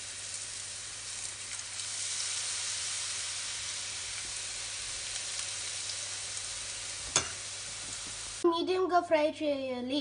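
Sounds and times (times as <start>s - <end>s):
batter sizzling in hot oil: 0.0s - 8.4s.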